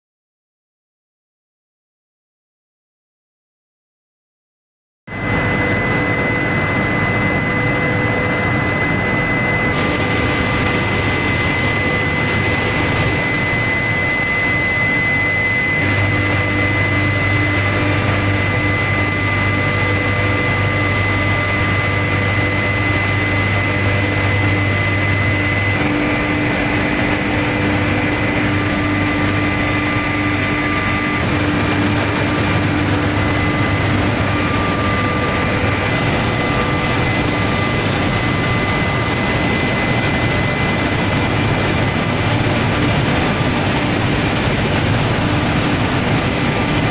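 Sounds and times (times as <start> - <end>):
low hum: 5.1 - 46.9.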